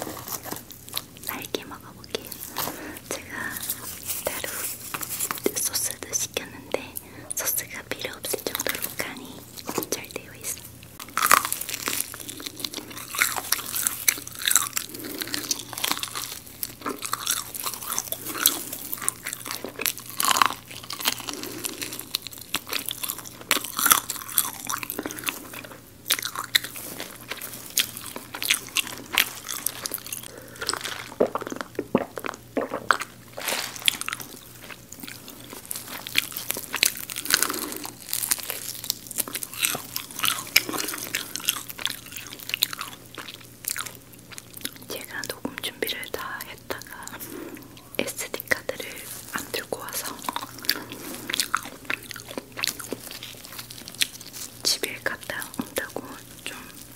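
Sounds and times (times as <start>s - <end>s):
crunchy chewing: 0.0s - 6.4s, 8.0s - 56.9s.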